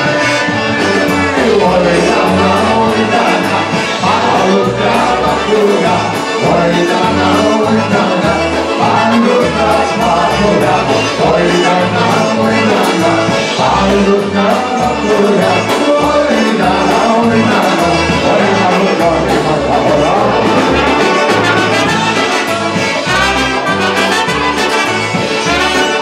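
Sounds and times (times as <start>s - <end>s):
bass line: 0.0s - 26.0s
polka band playing: 0.0s - 26.0s.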